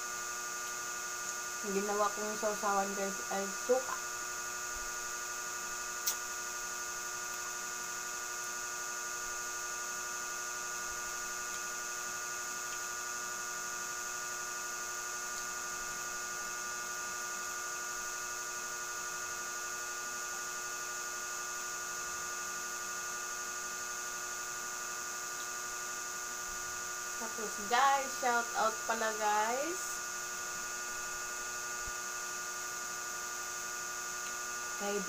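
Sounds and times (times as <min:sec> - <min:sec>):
electrical hum and whine: 0:00.0 - 0:35.0.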